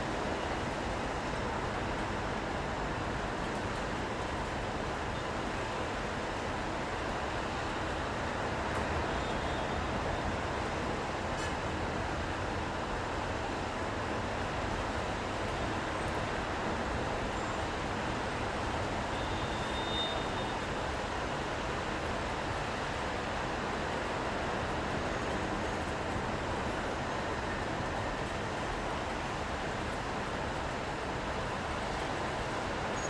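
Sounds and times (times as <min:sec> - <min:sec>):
rain: 0:00.0 - 0:33.0.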